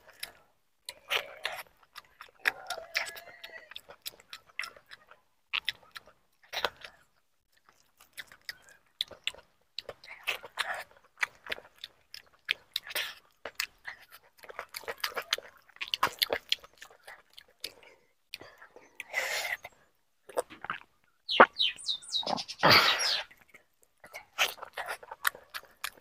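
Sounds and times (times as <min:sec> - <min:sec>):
man chewing and lip-smacking: 0:00.0 - 0:26.0.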